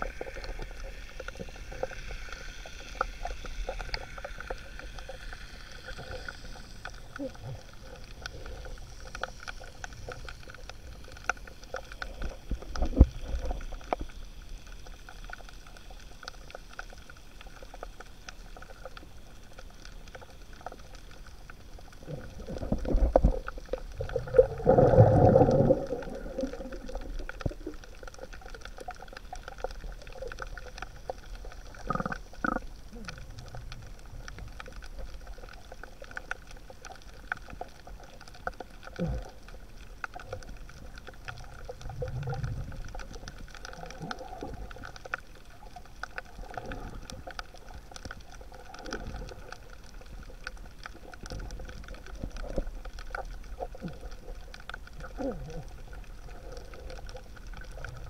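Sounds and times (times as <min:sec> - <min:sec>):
underwater water movement: 0:00.0 - 0:58.0.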